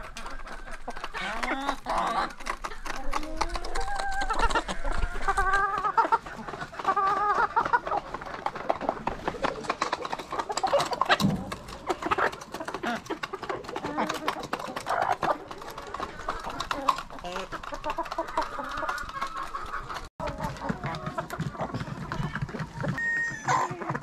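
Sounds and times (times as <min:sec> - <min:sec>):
wavering hen calls: 0:00.0 - 0:08.2, 0:10.3 - 0:24.0
chickens clucking: 0:00.0 - 0:24.0.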